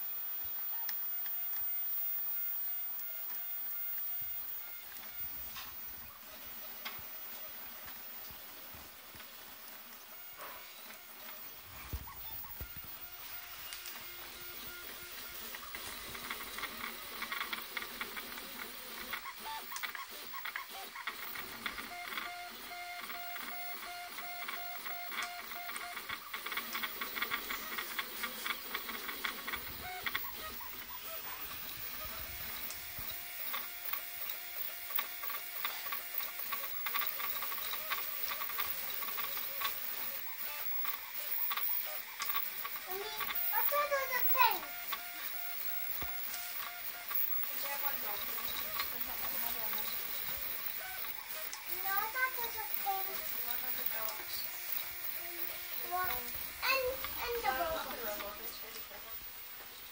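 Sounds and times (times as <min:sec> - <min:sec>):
cooling fan hiss: 0:00.0 - 0:59.9
stepper motors whirring: 0:00.0 - 0:59.9.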